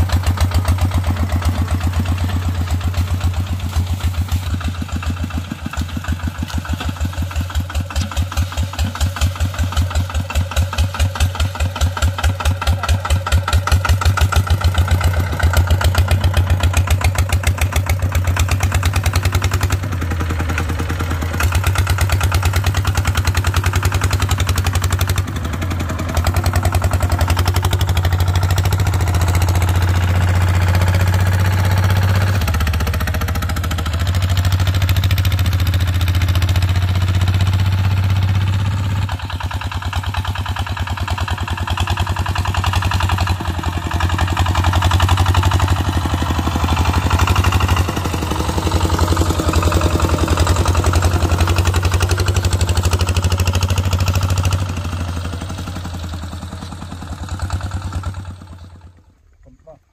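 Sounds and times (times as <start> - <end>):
diesel engine chugging: 0.0 - 59.9.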